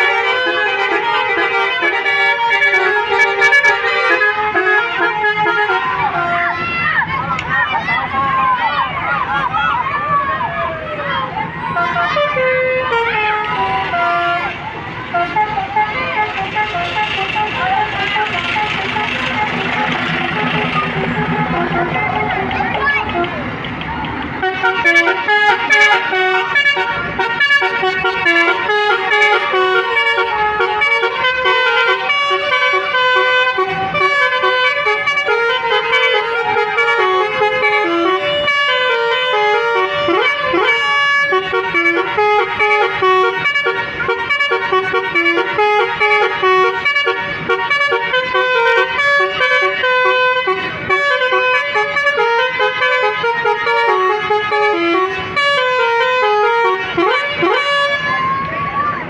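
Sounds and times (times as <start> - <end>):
bus air horns playing a tune: 0.0 - 8.0, 11.1 - 23.6, 24.4 - 58.5.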